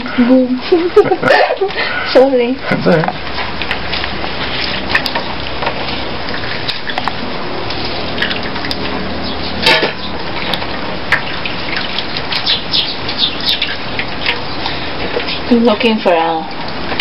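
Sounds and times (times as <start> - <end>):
wet crackling and squishing: 1.2 - 17.0.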